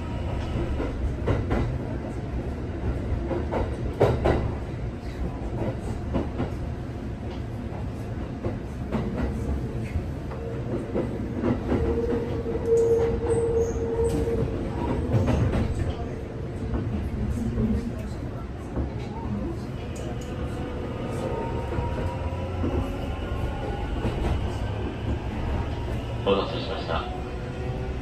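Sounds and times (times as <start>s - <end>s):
train interior rumble: 0.0s - 28.0s.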